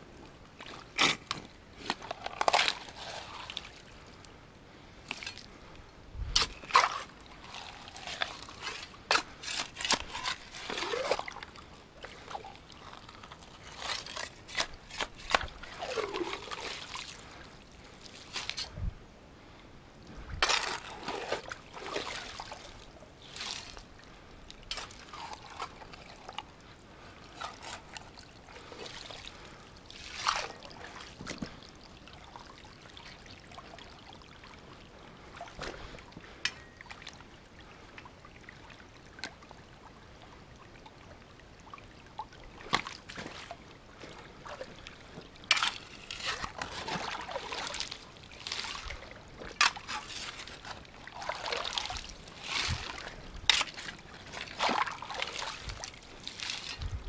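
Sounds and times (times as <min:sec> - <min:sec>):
splashing and sloshing water: 0:00.0 - 0:04.2, 0:05.0 - 0:05.7, 0:06.3 - 0:18.8, 0:20.2 - 0:57.0
creek water trickling: 0:00.0 - 0:18.9, 0:19.9 - 0:57.0.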